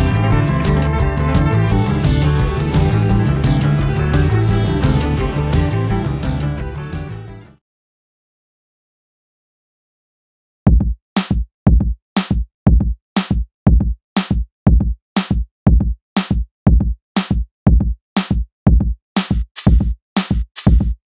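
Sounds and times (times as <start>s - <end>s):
electronic music with drum machine beat: 0.0s - 7.6s, 10.7s - 21.0s.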